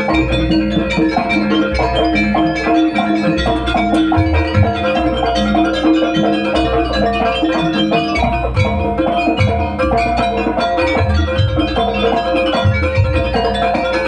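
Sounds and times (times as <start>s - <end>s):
drum beats: 0.0s - 14.0s
metallophones ringing melody: 0.0s - 14.0s.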